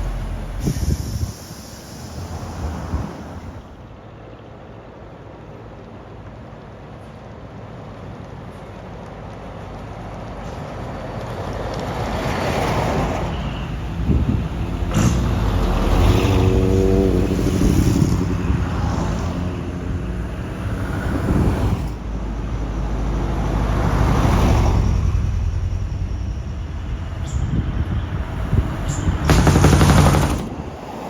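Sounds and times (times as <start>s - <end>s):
diesel trucks driving past: 0.0s - 31.0s.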